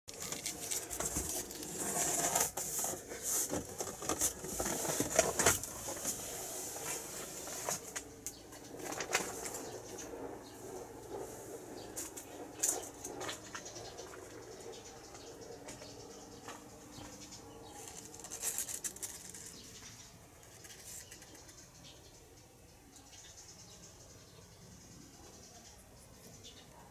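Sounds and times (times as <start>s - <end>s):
kittens rustling and scratching: 0.1s - 22.0s.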